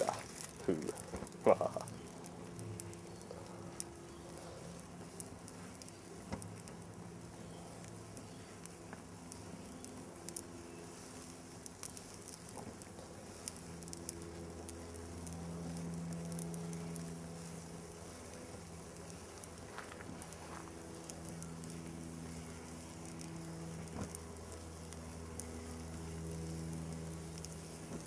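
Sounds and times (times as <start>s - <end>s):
fire crackling with pops: 0.0s - 28.0s
low steady hum: 0.0s - 28.0s.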